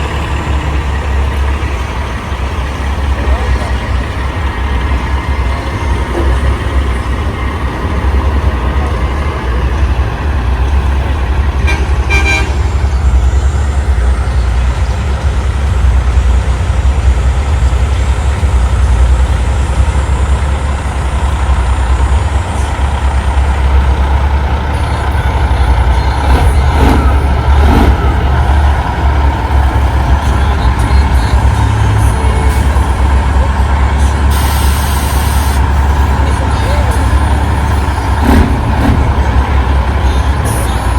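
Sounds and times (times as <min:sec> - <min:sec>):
truck diesel engines rumbling: 0:00.0 - 0:40.9.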